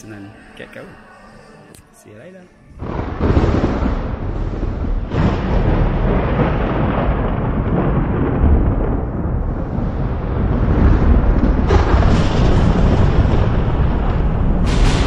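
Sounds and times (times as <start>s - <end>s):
rolling thunder: 2.8s - 15.0s.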